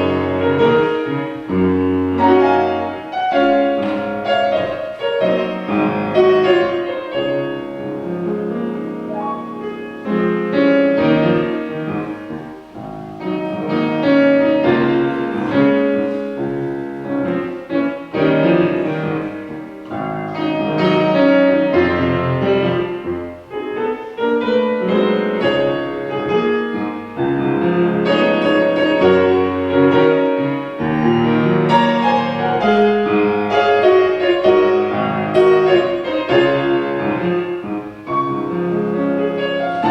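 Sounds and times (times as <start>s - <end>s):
piano playing chords: 0.0s - 39.9s.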